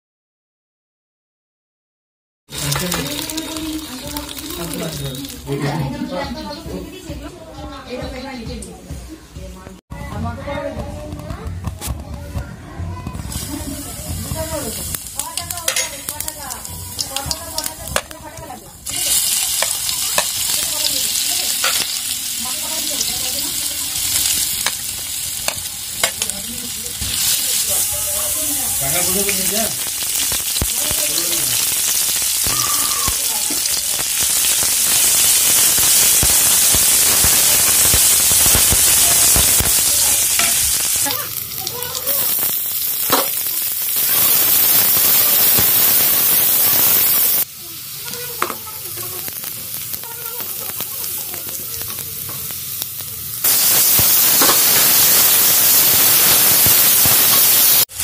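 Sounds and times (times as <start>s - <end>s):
vegetables sizzling in oil: 2.5s - 8.6s, 13.1s - 58.0s.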